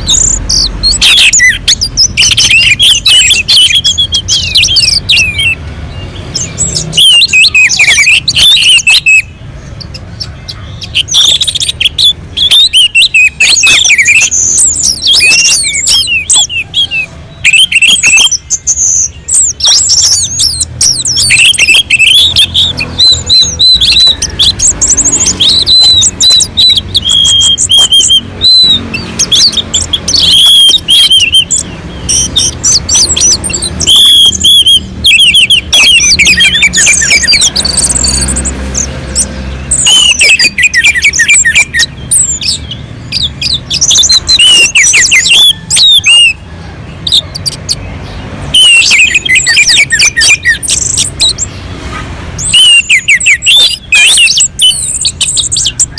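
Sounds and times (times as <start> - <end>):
thrush singing: 0.0 - 55.9.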